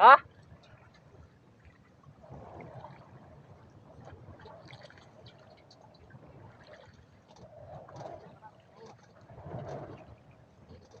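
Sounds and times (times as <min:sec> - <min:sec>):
water splashing against boat: 0:00.0 - 0:11.0.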